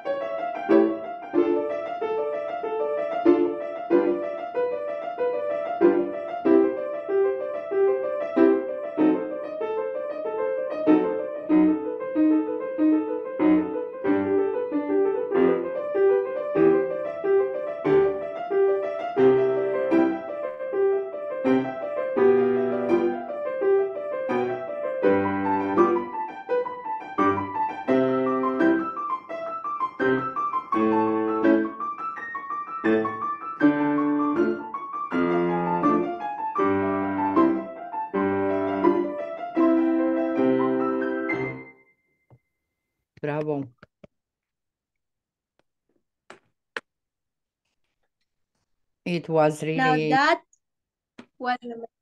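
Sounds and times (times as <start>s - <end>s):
piano chords and bass notes: 0.0s - 41.8s
solo grand piano: 0.0s - 41.9s.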